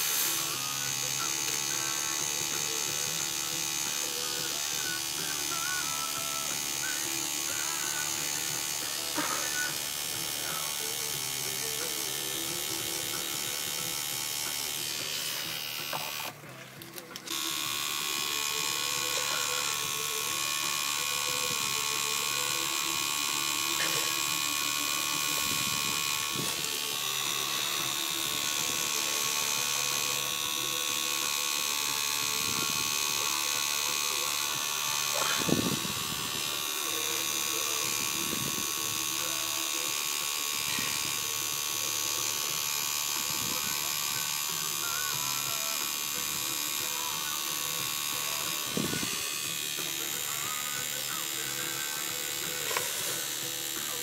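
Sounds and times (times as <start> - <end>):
tattoo machine buzzing: 0.0 - 54.0.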